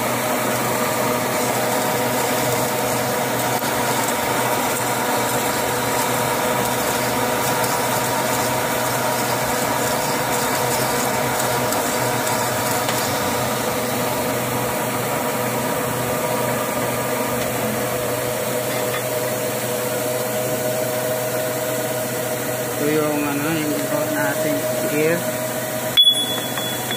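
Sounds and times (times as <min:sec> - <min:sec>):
metal lathe humming: 0:00.0 - 0:26.9.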